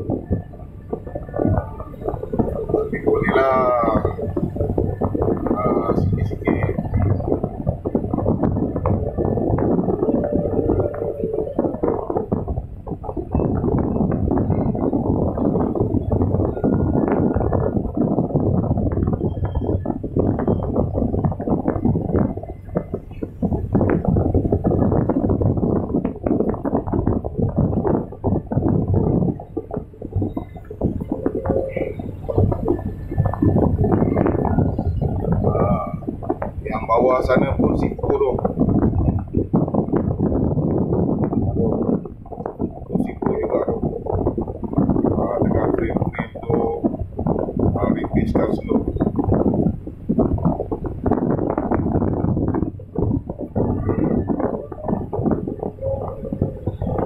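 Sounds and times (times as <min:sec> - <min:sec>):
excavator engine rumbling: 0:00.0 - 0:57.0.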